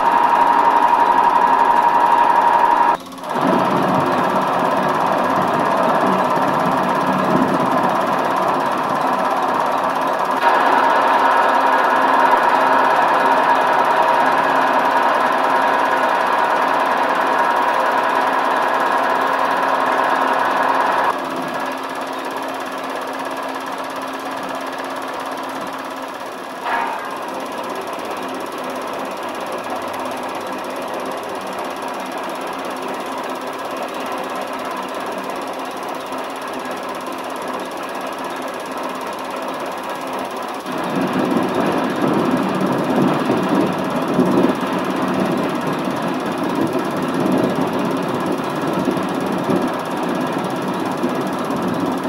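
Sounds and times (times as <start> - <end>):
film projector whirring: 0.0 - 52.0.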